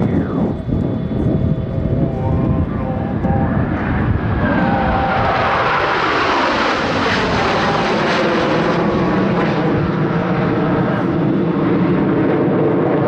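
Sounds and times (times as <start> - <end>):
jet whine falling in pitch: 0.0 - 13.0
jets roaring overhead: 0.0 - 13.0.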